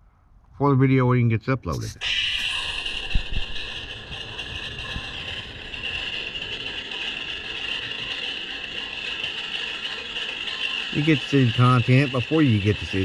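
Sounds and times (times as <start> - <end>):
engine running through phone speaker: 1.7 - 13.0.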